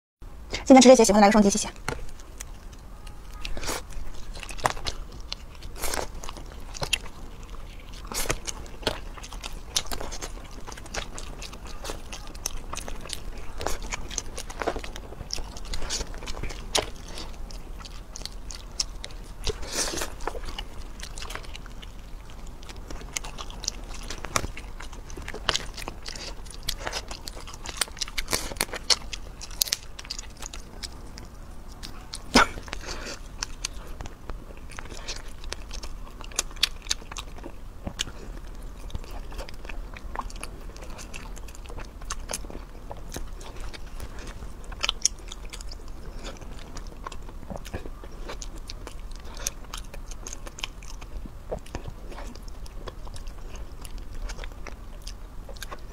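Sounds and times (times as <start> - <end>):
chewing with sharp crunches: 1.4 - 55.9.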